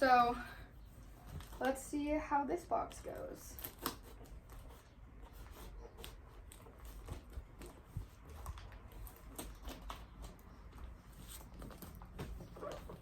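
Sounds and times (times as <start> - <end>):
packaging rustling and crinkling: 0.7 - 2.0, 2.8 - 13.0.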